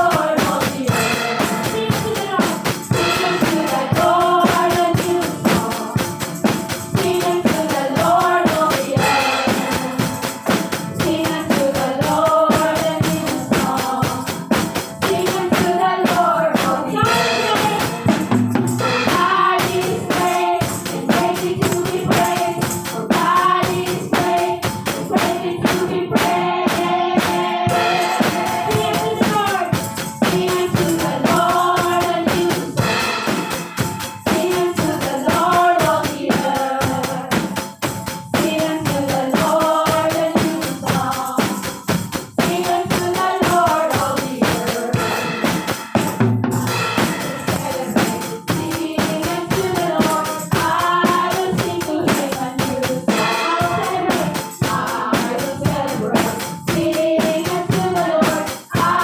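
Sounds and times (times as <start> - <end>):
voices singing together: 0.0 - 45.6, 46.9 - 59.0
drums: 0.0 - 59.0
tambourine: 0.0 - 59.0.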